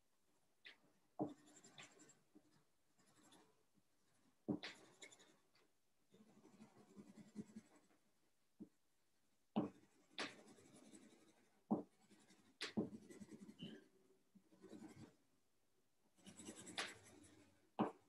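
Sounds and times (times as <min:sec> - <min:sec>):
colored pencil scratching on paper: 0:00.7 - 0:08.0, 0:09.6 - 0:15.2, 0:16.1 - 0:18.0.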